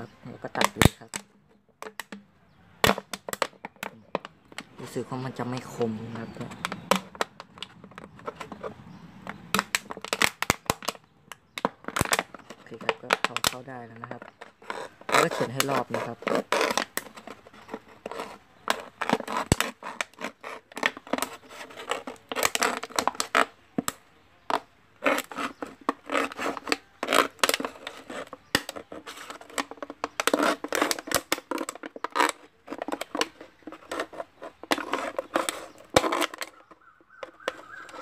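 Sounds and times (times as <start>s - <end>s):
knife cutting plastic bottle: 0.0s - 38.0s.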